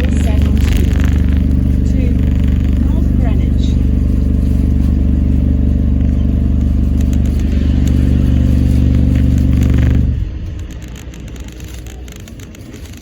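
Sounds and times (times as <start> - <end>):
bus cabin noise: 0.0 - 13.0
bus diesel engine droning: 0.0 - 13.0.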